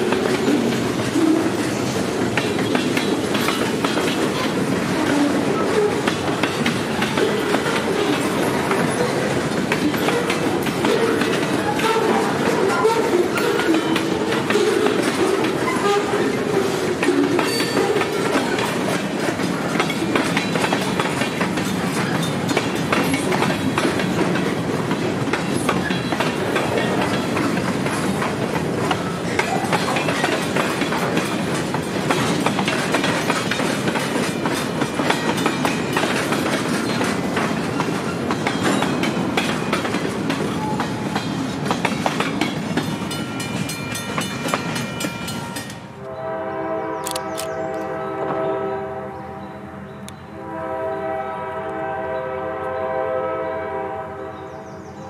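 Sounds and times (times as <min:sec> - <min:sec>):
freight train wheels clicking on rails: 0:00.0 - 0:46.1.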